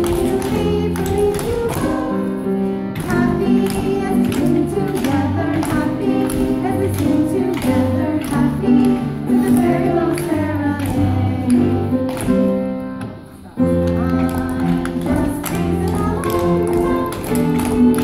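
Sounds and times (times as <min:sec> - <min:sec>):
women singing together: 0:00.0 - 0:12.0, 0:14.0 - 0:18.0.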